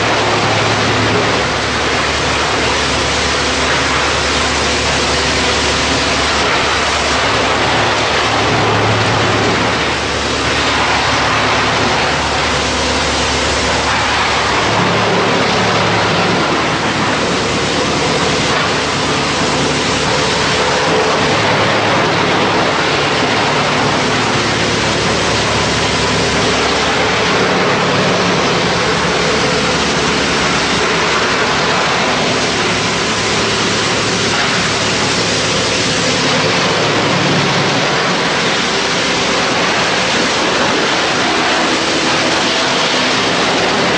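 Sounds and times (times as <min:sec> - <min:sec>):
wood chipper running: 0:00.0 - 0:43.9.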